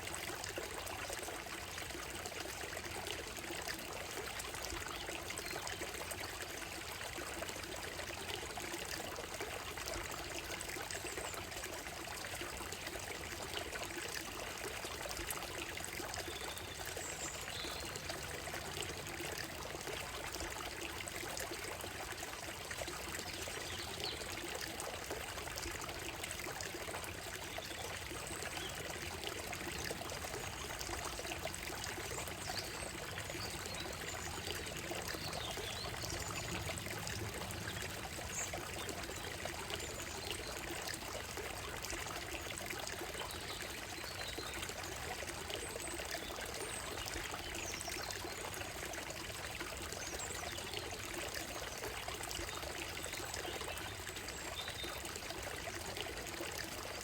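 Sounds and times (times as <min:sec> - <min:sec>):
stream trickling over gravel: 0:00.0 - 0:57.0.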